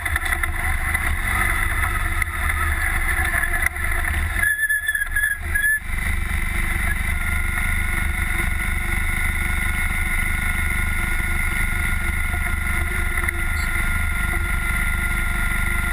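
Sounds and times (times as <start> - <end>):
buggy engine running: 0.0 - 15.9.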